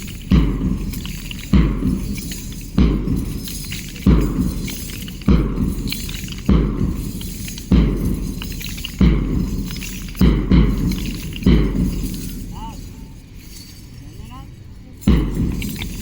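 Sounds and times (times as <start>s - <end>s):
heavy impacts with clattering tail: 0.0s - 14.0s, 15.0s - 16.0s.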